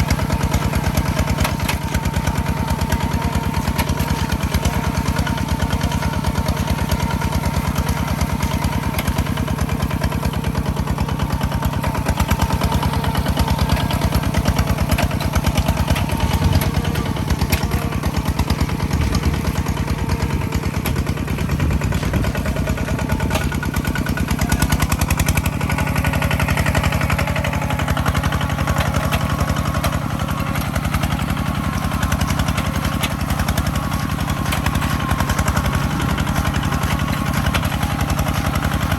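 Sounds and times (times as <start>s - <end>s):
farm machine engine running: 0.0s - 38.9s.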